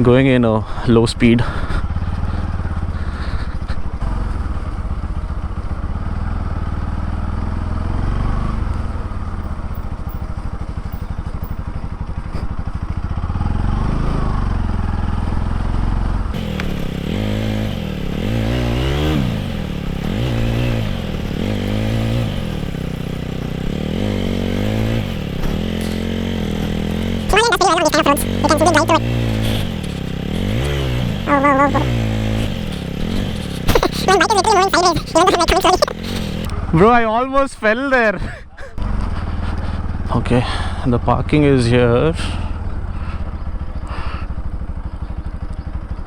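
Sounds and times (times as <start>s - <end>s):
motorcycle engine revving: 1.5s - 27.3s, 28.1s - 34.1s, 34.9s - 36.8s, 38.8s - 45.9s.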